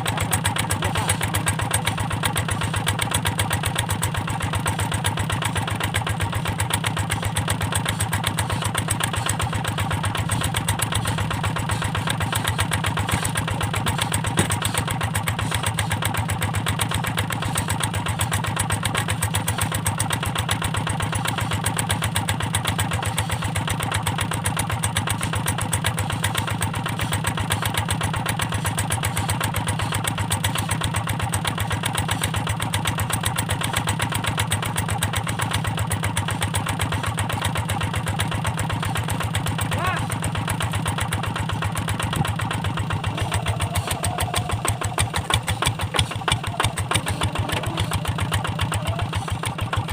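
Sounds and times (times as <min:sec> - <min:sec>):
diesel engine running steadily: 0:00.0 - 0:49.9.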